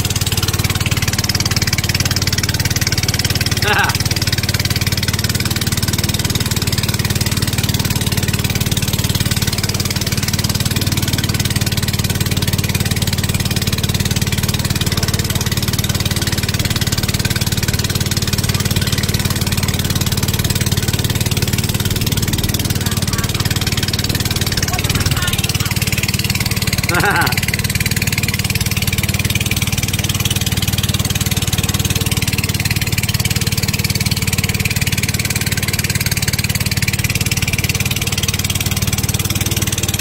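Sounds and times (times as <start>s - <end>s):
motorboat engine droning: 0.0s - 40.0s.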